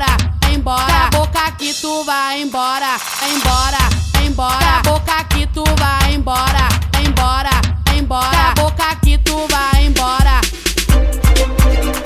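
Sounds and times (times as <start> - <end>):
funk music with heavy bass beat: 0.0 - 12.0.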